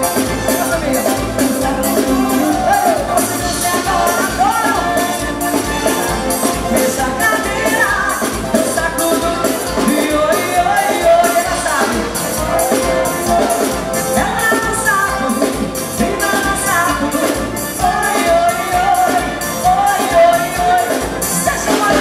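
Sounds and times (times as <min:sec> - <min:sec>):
accordion: 0:00.0 - 0:22.0
drums: 0:00.0 - 0:22.0
electric guitar: 0:00.0 - 0:22.0
live band through speakers: 0:00.0 - 0:22.0
person singing: 0:00.0 - 0:22.0.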